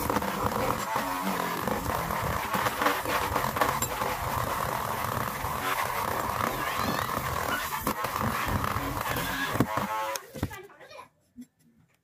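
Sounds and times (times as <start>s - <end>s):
rotary tool motor whine: 0.0s - 10.4s.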